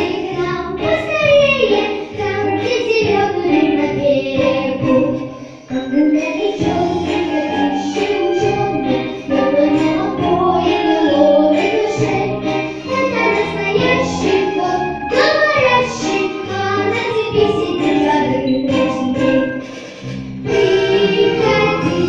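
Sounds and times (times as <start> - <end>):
girl singing into a microphone: 0.0 - 18.9
instrumental backing track: 0.0 - 22.0.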